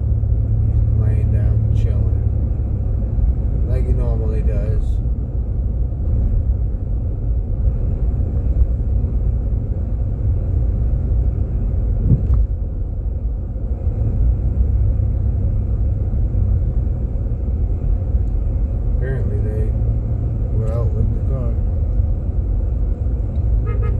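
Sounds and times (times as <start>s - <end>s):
car cabin road rumble: 0.0s - 23.9s.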